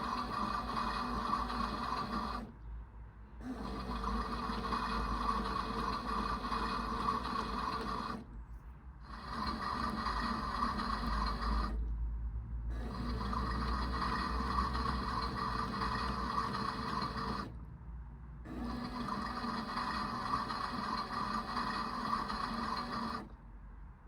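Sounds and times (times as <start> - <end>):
toy washing machine motor whirring: 0.0 - 2.5, 3.4 - 8.3, 9.0 - 11.8, 12.7 - 17.5, 18.5 - 23.4.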